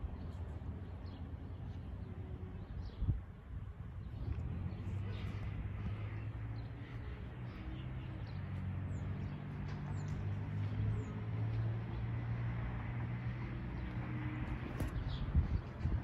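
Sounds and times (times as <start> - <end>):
highway traffic hum: 0.0 - 16.0.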